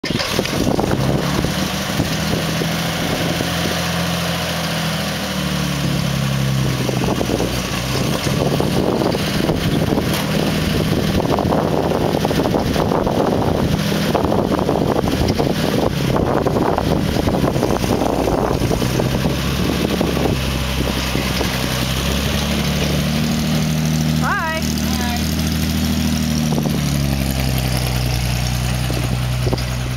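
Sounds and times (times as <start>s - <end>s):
wind noise on microphone: 0.0s - 4.1s, 5.8s - 24.6s, 25.2s - 29.9s
pickup truck engine idling: 0.0s - 29.9s.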